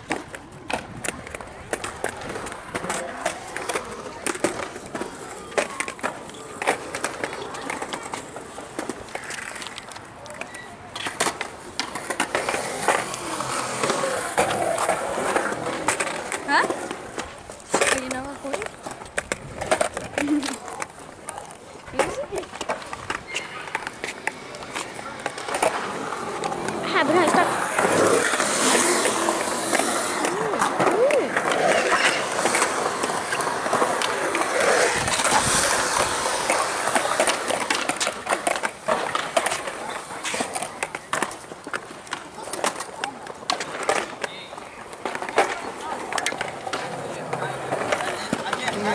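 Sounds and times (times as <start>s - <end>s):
skateboards knocking on ground: 0.0s - 48.9s
skateboards rolling on concrete: 0.0s - 48.9s.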